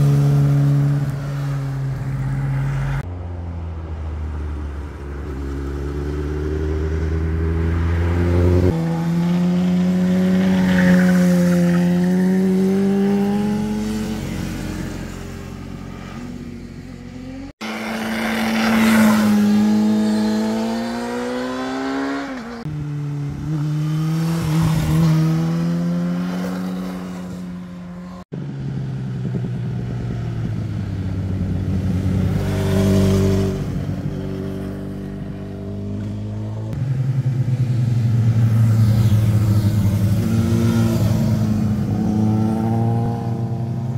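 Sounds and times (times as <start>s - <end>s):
motorcycle engines shifting gears: 5.0s - 43.9s.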